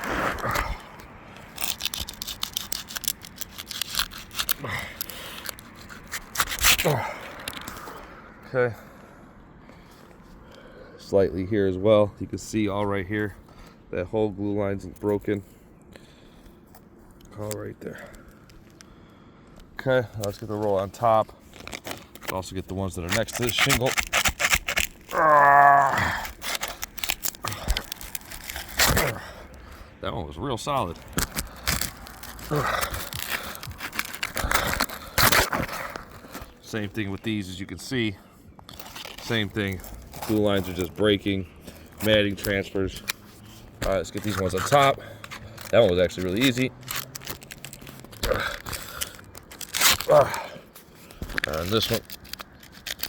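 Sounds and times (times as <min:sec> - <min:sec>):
shingle scraping and crackling: 0:00.0 - 0:08.2, 0:15.0 - 0:53.0.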